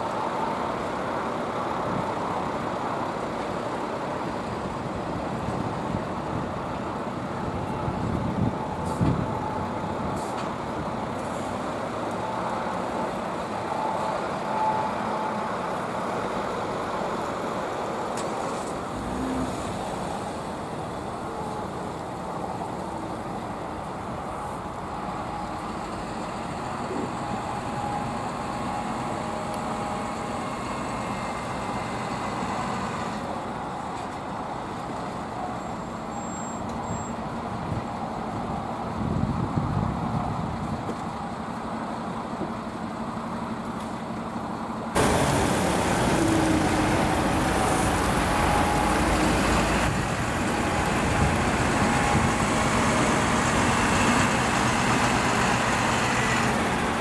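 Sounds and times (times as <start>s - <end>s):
truck diesel engines passing: 0.0s - 57.0s.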